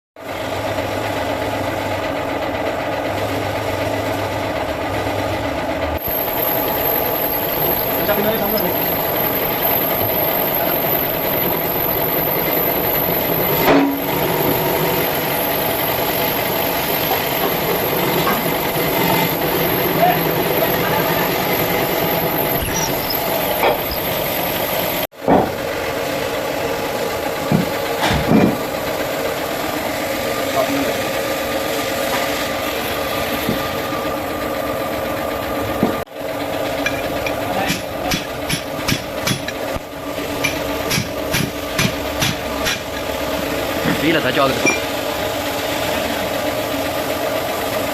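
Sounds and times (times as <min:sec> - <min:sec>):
engine idling: 0:00.2 - 0:47.9.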